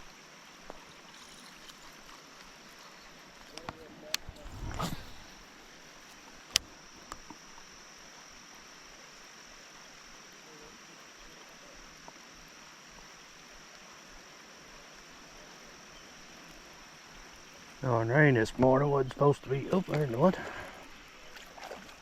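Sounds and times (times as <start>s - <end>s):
high-pitched insect drone: 0.0s - 3.8s, 4.4s - 22.0s
light rain hiss: 0.0s - 22.0s.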